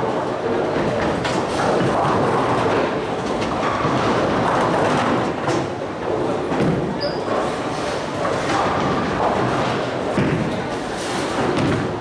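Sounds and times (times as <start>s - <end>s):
bowling balls rolling: 0.0s - 12.0s
bowling pins clattering: 0.0s - 12.0s.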